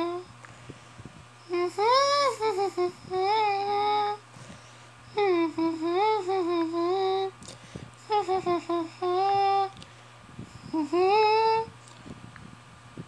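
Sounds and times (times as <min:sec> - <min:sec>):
high voice humming: 0:00.0 - 0:00.4, 0:01.1 - 0:12.6
steady low hum: 0:00.0 - 0:13.0.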